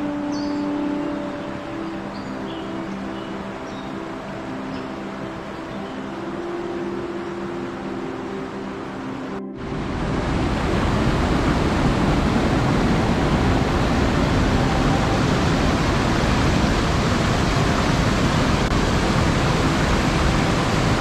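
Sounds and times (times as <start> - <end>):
waterfall rushing over rock: 0.0 - 21.0.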